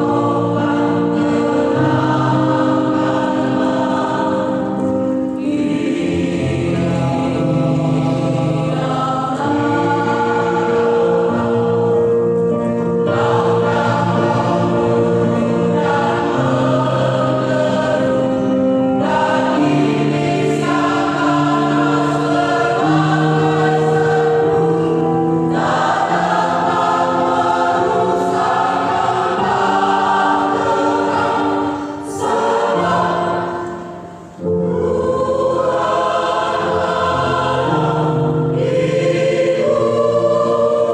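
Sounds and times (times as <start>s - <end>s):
choir singing in harmony: 0.0s - 40.9s.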